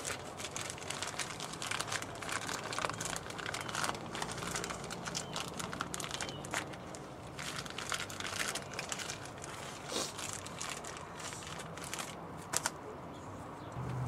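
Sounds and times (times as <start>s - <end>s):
plastic wrapping crinkling: 0.0s - 12.8s.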